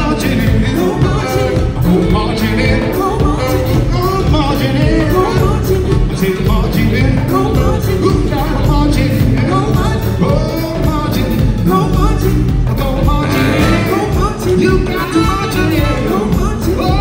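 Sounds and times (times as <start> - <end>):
drum beat: 0.0 - 17.0
electric bass: 0.0 - 17.0
electric guitar: 0.0 - 17.0
people singing: 0.0 - 17.0.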